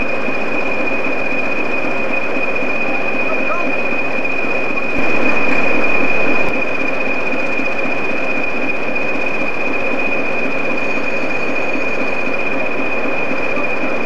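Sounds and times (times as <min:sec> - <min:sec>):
diesel locomotive engines running: 0:00.0 - 0:14.0
rumbling rail noise: 0:00.0 - 0:14.0.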